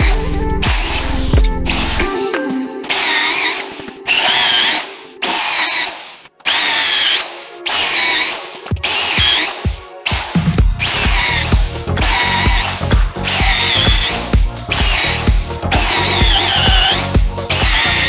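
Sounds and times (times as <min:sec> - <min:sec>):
power drill boring into wood: 0:02.9 - 0:18.0.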